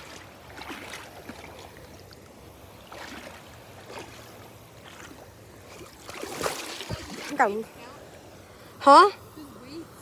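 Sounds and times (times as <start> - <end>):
small waves lapping on rocks: 0.0 - 8.1.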